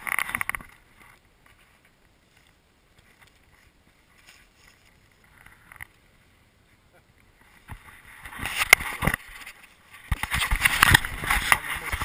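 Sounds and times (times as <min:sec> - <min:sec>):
faint rustles: 0:00.0 - 0:12.0.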